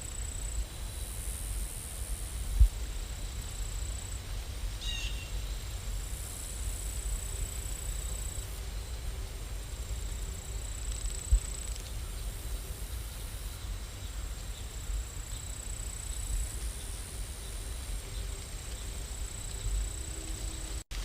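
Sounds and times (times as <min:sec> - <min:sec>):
faint hiss: 0:00.0 - 0:21.0
steady rain: 0:00.0 - 0:21.0.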